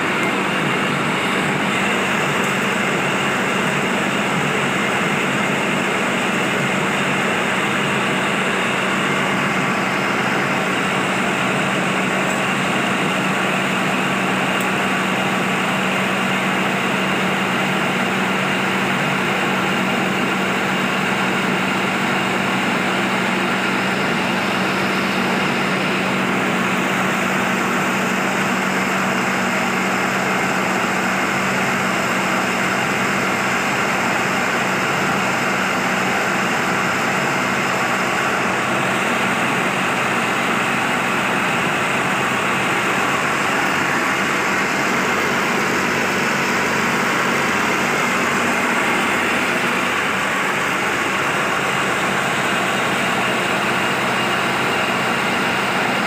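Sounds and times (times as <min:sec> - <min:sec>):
wood chipper whirring: 0:00.0 - 0:56.0.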